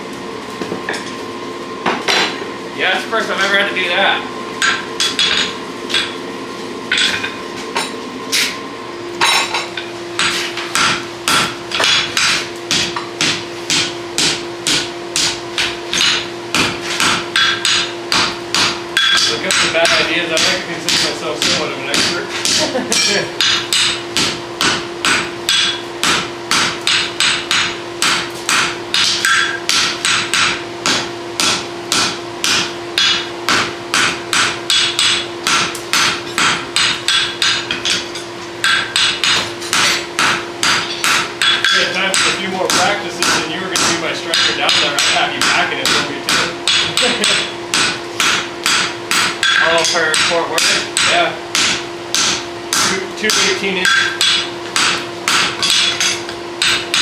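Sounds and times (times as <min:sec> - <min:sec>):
hammer striking steel on anvil: 0:04.6 - 0:06.2, 0:06.9 - 0:08.6, 0:09.2 - 0:57.0.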